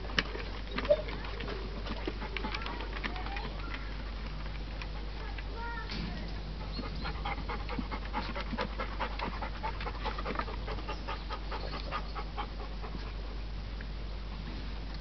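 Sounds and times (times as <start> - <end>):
dog panting: 0.1 - 5.5, 6.5 - 13.5.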